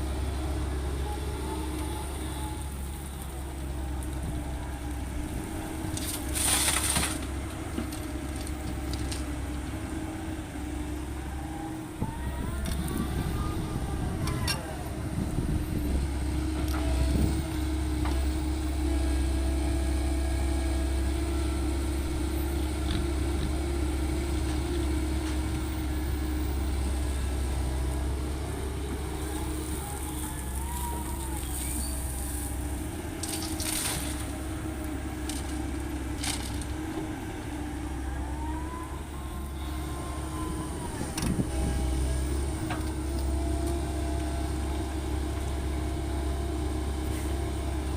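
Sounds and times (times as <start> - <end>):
diesel machinery drone: 0.0 - 47.9.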